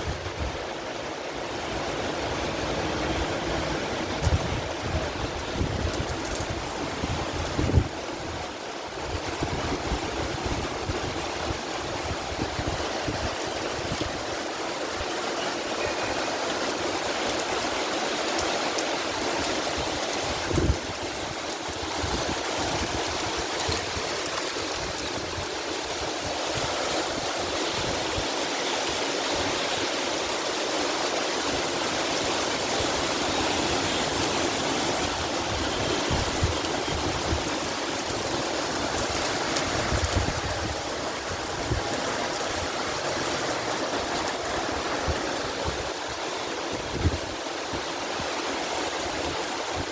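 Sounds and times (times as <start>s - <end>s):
heavy rain pouring: 0.0s - 49.9s
wind rumbling on microphone: 0.0s - 49.9s.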